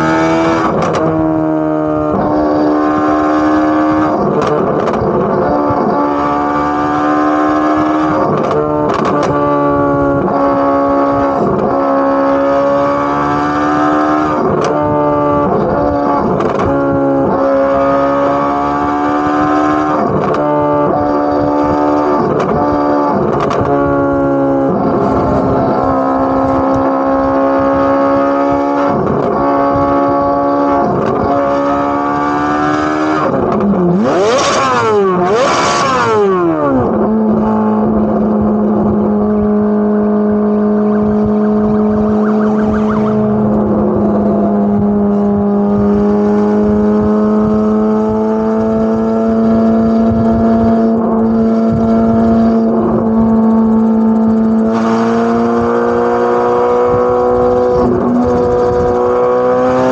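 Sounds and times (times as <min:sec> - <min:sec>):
sports car exhaust droning: 0:00.0 - 0:59.9.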